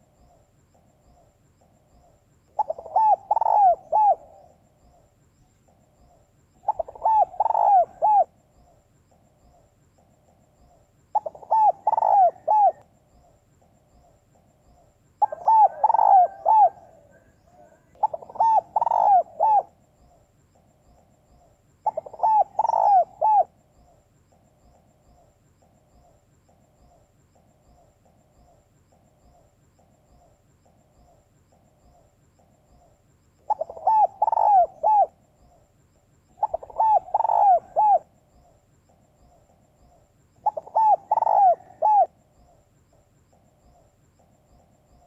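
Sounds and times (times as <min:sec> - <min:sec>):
dove cooing: 0:00.0 - 0:05.1, 0:05.7 - 0:13.4, 0:14.0 - 0:20.7, 0:21.3 - 0:24.4, 0:25.2 - 0:35.6, 0:36.3 - 0:38.2, 0:39.3 - 0:42.6.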